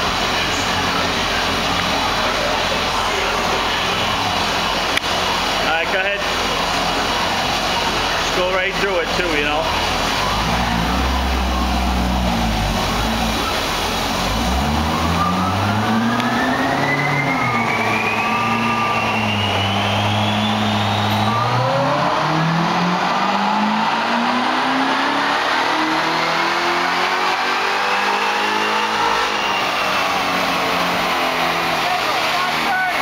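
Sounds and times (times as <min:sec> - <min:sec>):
car engine revving under load: 0:00.0 - 0:33.0
high supercharger whine: 0:00.0 - 0:33.0.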